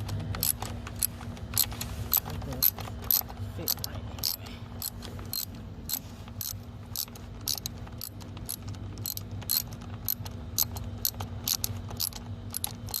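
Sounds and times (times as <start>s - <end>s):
ratchet wrench clicking: 0.0s - 13.0s
steady low hum: 0.0s - 13.0s.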